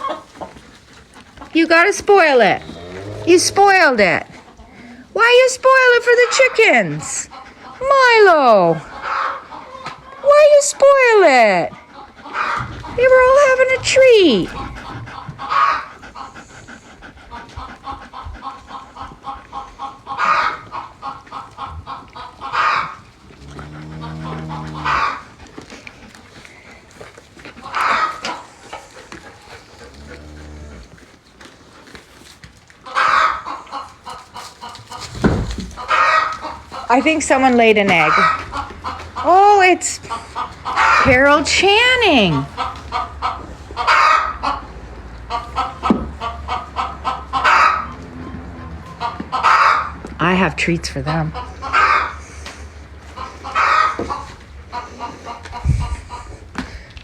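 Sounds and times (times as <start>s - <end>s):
hens clucking: 0.0s - 57.0s.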